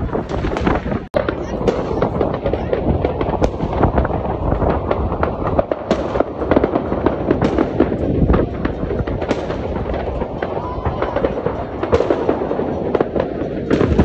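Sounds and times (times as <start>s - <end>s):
ground fireworks firing: 0.0s - 14.0s.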